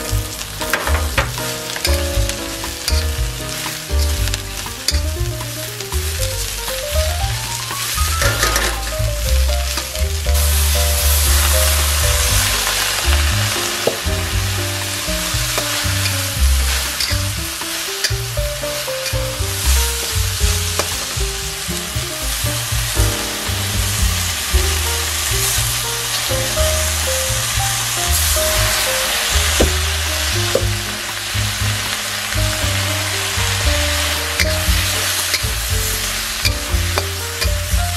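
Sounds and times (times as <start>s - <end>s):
background music: 0.0s - 37.9s
vegetables sizzling in a wok: 0.0s - 37.9s.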